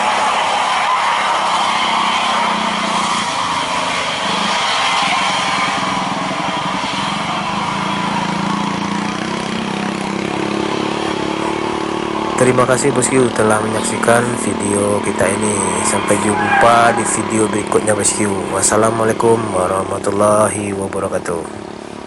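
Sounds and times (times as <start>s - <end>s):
road and wind noise: 0.0s - 22.0s
vehicle engine humming: 0.0s - 22.0s.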